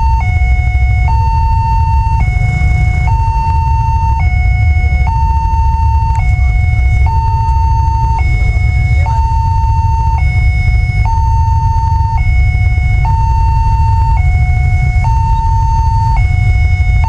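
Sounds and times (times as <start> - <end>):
steady low rumble: 0.0 - 17.0
two-tone warning siren: 0.0 - 17.0.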